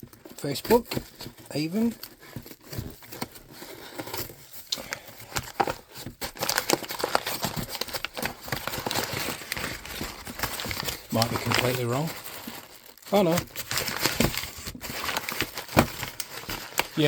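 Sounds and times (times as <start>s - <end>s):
packaging crinkling: 0.1s - 17.0s.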